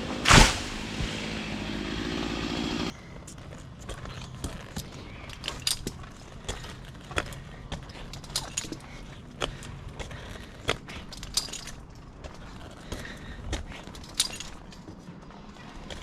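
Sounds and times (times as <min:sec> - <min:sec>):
climbing gear clicks and jangling: 0:03.2 - 0:16.0.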